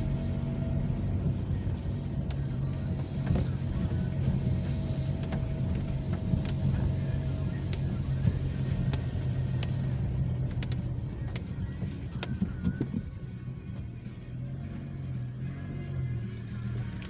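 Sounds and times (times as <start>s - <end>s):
car engine and tyre hum: 0.0s - 17.0s.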